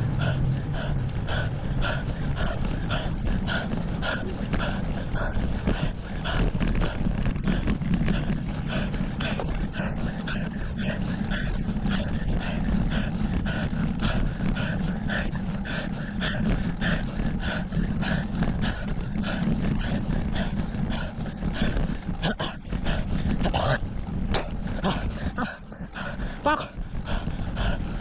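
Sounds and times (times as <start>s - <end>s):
cyclist panting: 0.0s - 28.0s
wind rumble on microphone: 0.0s - 28.0s.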